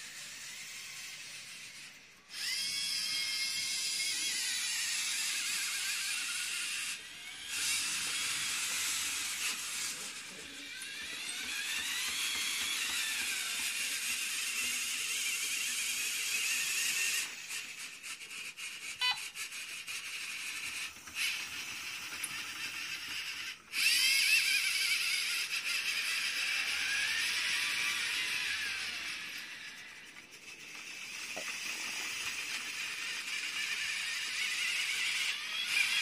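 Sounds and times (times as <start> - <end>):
robotic arm motors whirring: 0.0 - 36.0.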